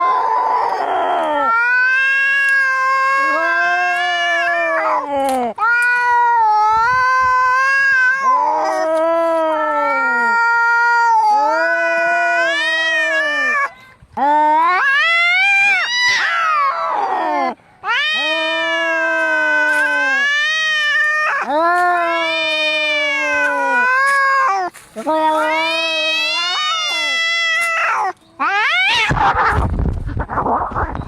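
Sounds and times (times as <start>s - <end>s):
cats yowling: 0.0s - 29.7s.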